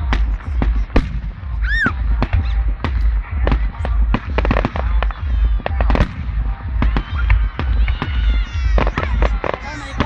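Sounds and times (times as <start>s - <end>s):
fireworks bangs and cracks: 0.0s - 10.0s
low rumble: 0.0s - 10.0s.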